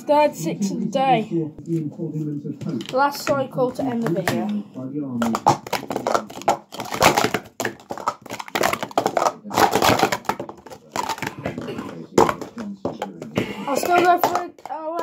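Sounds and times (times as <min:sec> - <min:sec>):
plastic cups clattering: 0:02.6 - 0:15.0.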